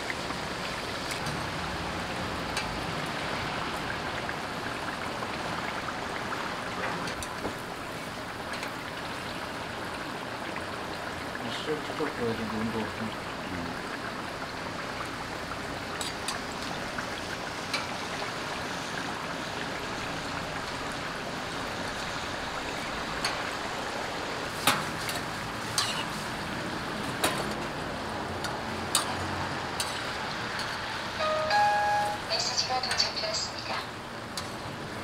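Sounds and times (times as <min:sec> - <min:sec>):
pancakes sizzling in oil: 0:00.0 - 0:12.9, 0:13.9 - 0:31.2, 0:34.0 - 0:35.0.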